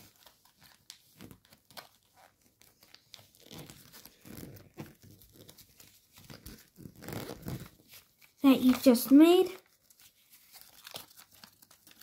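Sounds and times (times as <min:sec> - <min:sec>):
foil paper crinkling: 0:00.0 - 0:12.0.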